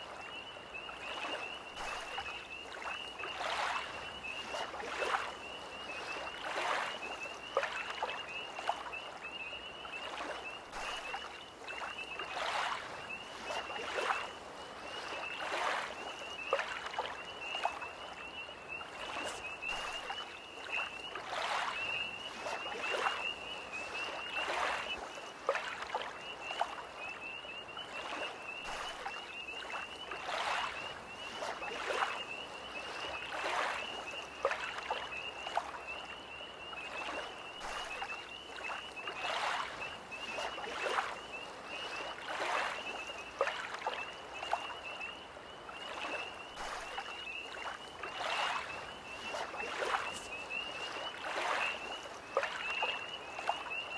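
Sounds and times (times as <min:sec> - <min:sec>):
lake waves lapping: 0:01.1 - 0:09.0, 0:09.7 - 0:53.9.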